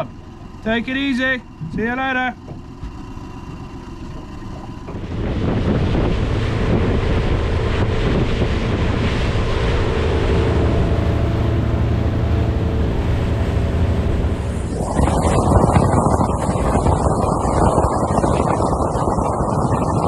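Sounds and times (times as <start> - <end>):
boat engine droning: 0.0 - 20.0
rushing water: 2.6 - 20.0
wind buffeting microphone: 3.5 - 20.0.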